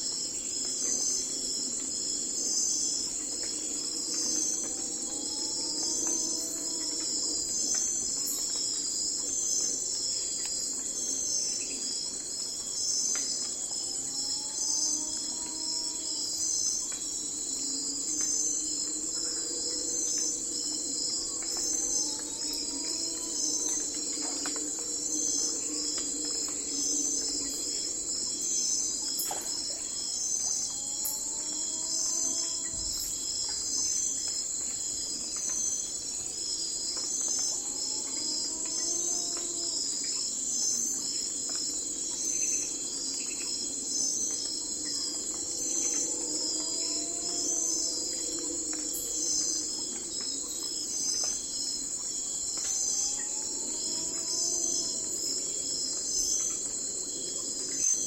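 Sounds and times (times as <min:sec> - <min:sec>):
crickets and insects chirring: 0:00.0 - 0:58.0.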